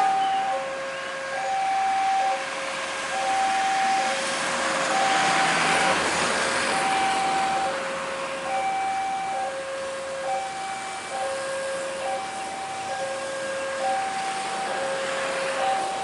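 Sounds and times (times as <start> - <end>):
level crossing alarm tone: 0.0 - 16.0.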